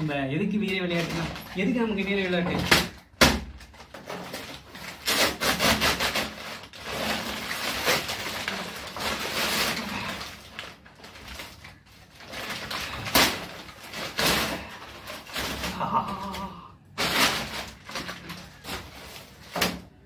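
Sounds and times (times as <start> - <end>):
paper bag ripping and crumpling: 0.0 - 20.0
plastic wrapping rustling: 0.0 - 20.0.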